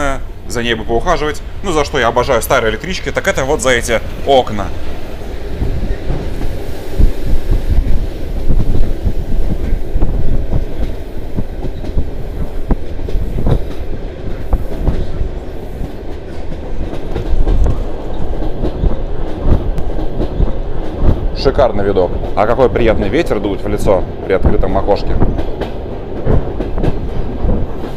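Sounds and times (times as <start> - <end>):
train cars rumbling: 0.0 - 27.9
wind buffeting microphone: 4.0 - 22.4, 23.8 - 27.9.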